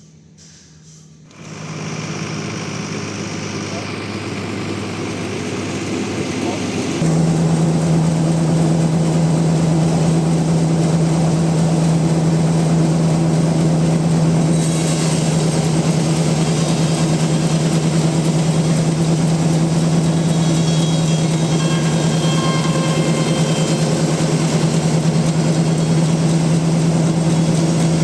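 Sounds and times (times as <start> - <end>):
sawmill machinery humming: 1.3 - 28.0.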